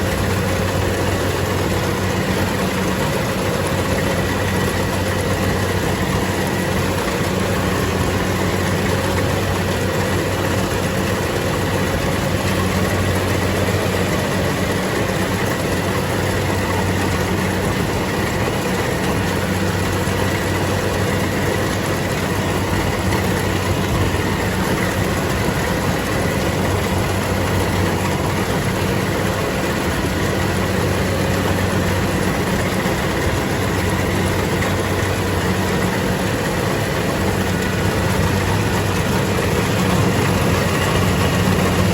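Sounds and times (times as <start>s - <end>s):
harvesting machine engine running: 0.0s - 41.9s.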